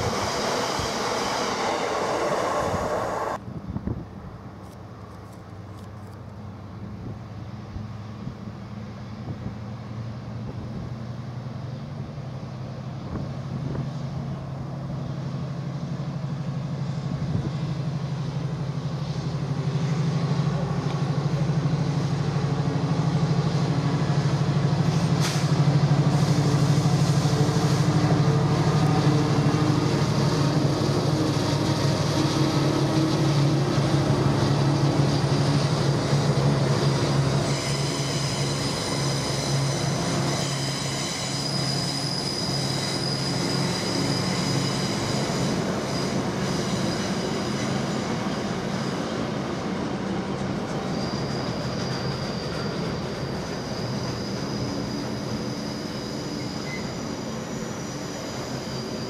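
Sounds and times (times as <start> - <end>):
train wheel squeal: 0.0 - 3.4, 12.8 - 59.0
diesel locomotive engine drone: 0.0 - 59.0.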